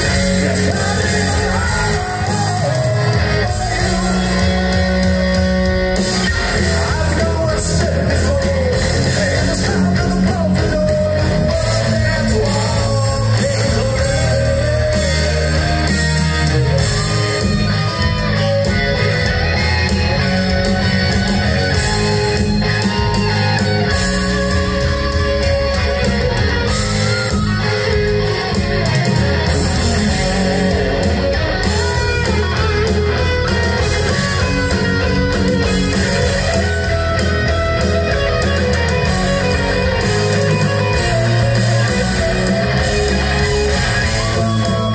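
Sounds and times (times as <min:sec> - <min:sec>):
hard rock band playing: 0:00.0 - 0:44.9.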